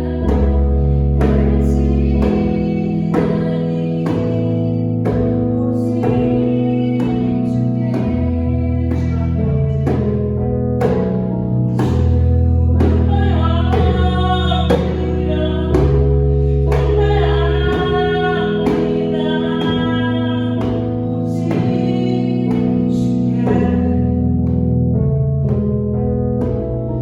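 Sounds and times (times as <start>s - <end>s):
person singing: 0.0s - 11.0s, 11.8s - 24.6s
hand drum strikes: 0.2s - 23.8s.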